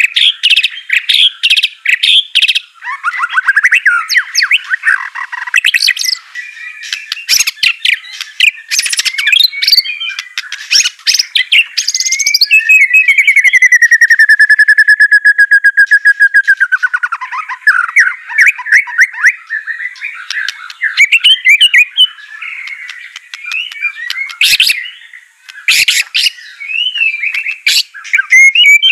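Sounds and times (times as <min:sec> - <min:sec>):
bird rapid trill: 0:00.0 - 0:28.9
bird singing whistled phrases: 0:00.0 - 0:28.9.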